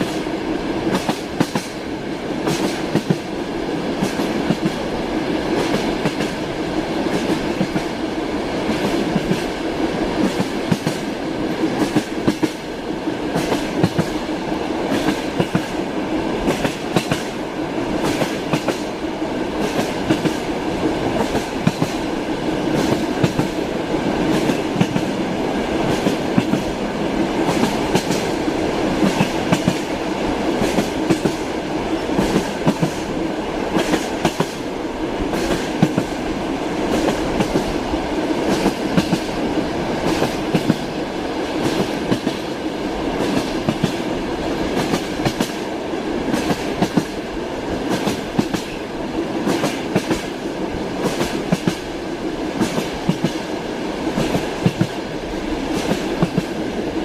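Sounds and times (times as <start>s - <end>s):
train rolling rumble: 0.0s - 57.0s
train wheels clacking on rails: 0.0s - 57.0s.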